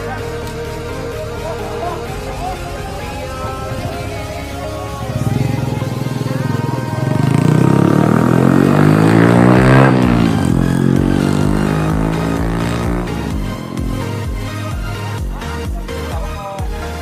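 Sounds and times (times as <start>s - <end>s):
music beat: 0.0s - 17.0s
vehicle engine passing by: 1.0s - 16.0s.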